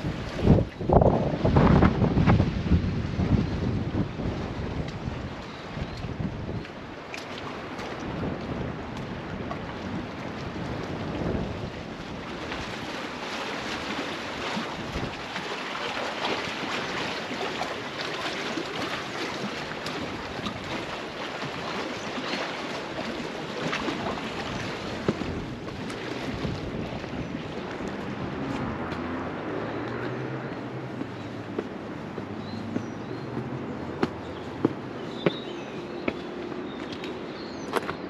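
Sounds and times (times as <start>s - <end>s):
water lapping against stone wall: 0.0s - 38.0s
wind buffeting microphone: 0.0s - 38.0s.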